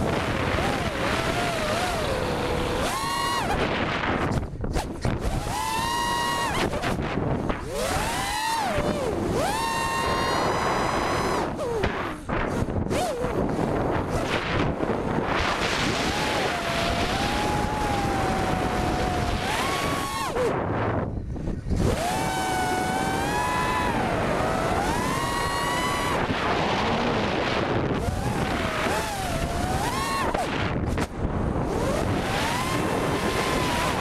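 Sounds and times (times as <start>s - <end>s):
drone motors whining: 0.0s - 34.0s
heavy wind noise: 0.0s - 34.0s.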